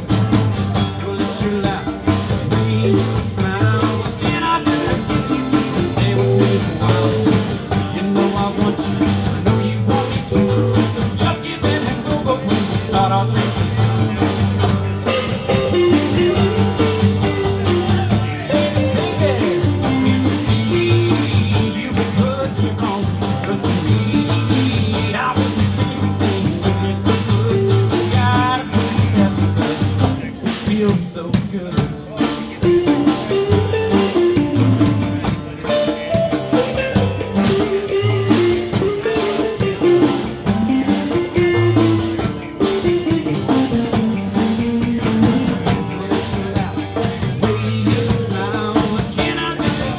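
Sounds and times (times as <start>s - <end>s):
lead guitar lines bending: 0.0s - 30.9s, 31.6s - 49.9s
bass guitar: 0.0s - 49.9s
blues band playing: 0.0s - 49.9s
drum kit: 0.0s - 49.9s.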